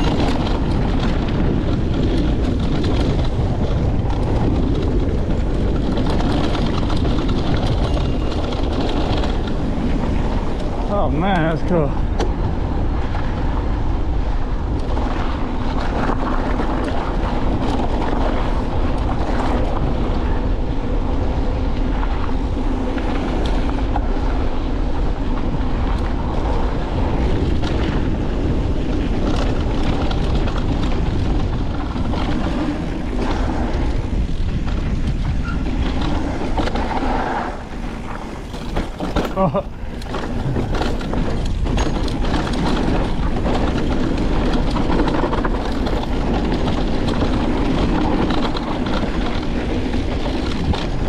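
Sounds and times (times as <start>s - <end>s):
bike knocks and rattles: 0.0s - 51.0s
tyres rolling over dirt and rock: 0.0s - 51.0s
wind buffeting microphone: 0.0s - 51.0s.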